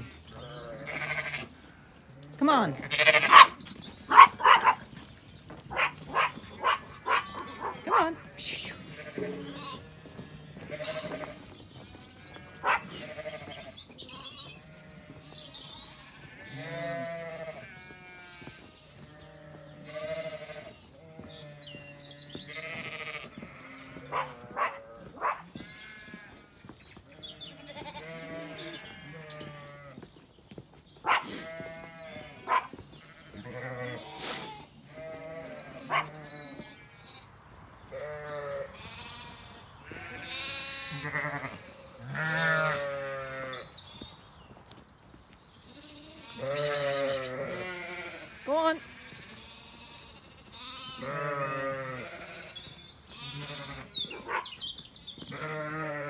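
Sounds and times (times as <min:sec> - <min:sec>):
sheep and lambs bleating: 0:00.0 - 0:05.1, 0:05.7 - 0:30.2, 0:31.0 - 0:44.6, 0:45.6 - 0:54.6, 0:55.2 - 0:56.0.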